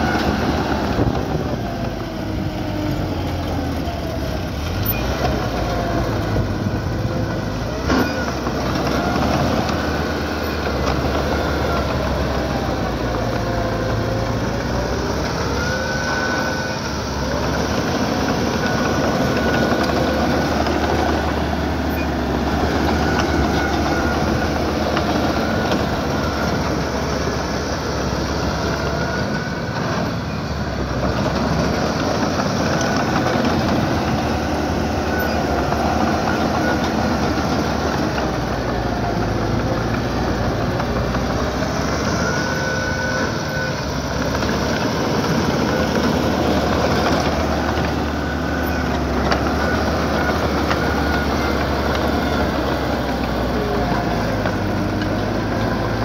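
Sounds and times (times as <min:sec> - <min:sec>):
steel tracks clanking and squealing: 0:00.0 - 0:55.6
diesel engine under load: 0:00.0 - 0:56.0.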